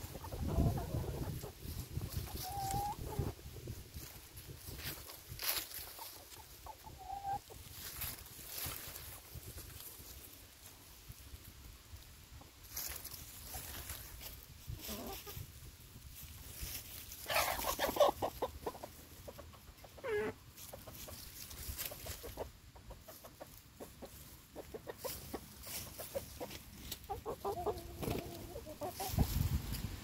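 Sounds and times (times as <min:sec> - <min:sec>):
chickens clucking: 0:00.0 - 0:15.6, 0:16.2 - 0:30.0.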